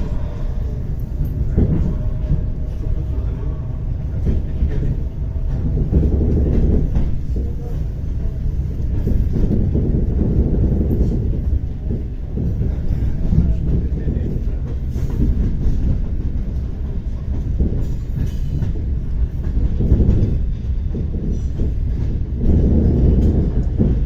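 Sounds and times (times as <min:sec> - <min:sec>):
train running gear rumble: 0:00.0 - 0:24.0.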